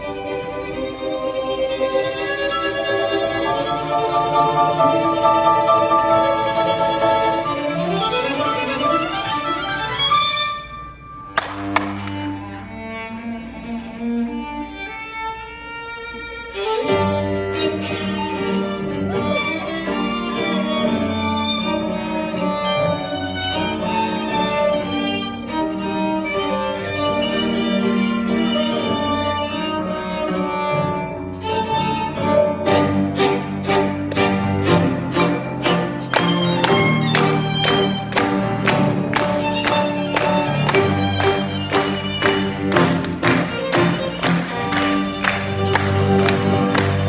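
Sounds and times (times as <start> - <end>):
string and piano quartet playing: 0.0 - 47.0.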